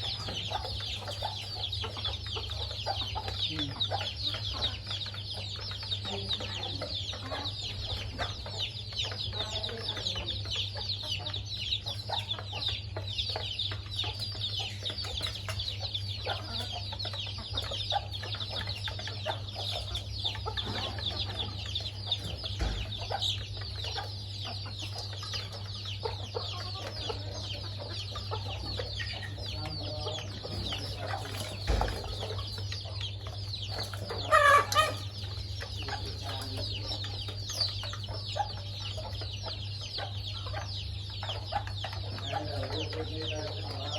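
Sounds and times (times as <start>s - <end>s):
chicks cheeping: 0.0s - 43.9s
hen clucking: 0.0s - 43.9s.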